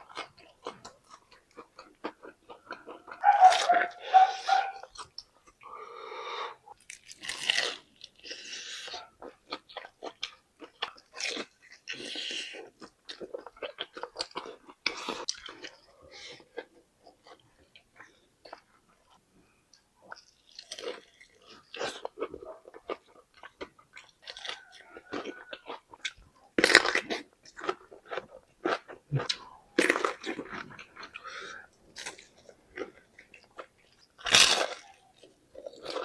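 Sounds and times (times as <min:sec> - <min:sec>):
crunching fried chicken: 0:00.0 - 0:05.6, 0:06.7 - 0:17.9, 0:20.0 - 0:36.0.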